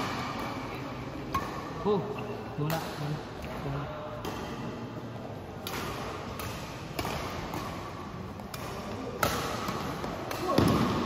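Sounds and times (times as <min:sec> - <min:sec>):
rackets hitting shuttlecock: 0:00.0 - 0:02.0, 0:02.6 - 0:11.0
sports hall background noise: 0:00.0 - 0:11.0.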